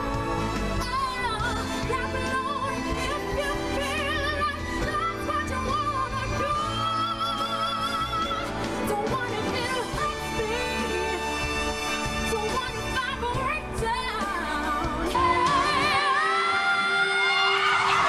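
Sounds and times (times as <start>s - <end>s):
woman singing into a microphone: 0.8s - 11.5s, 12.3s - 18.0s.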